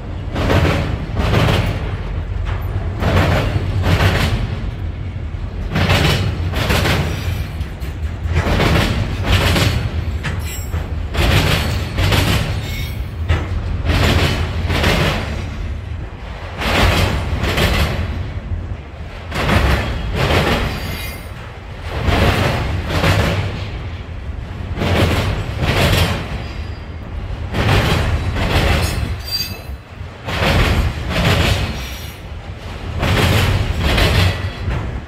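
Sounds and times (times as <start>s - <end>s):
train low rumble: 0.0s - 35.0s
train wheels clattering over crossing: 0.0s - 35.0s.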